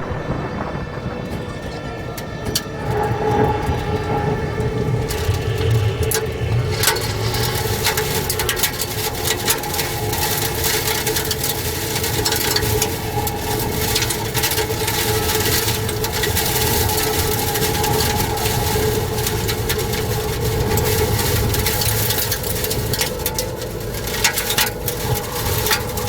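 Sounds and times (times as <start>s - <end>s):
hiss of wind and debris: 0.0s - 3.0s, 5.2s - 26.0s
tornado wind roaring: 0.0s - 26.0s.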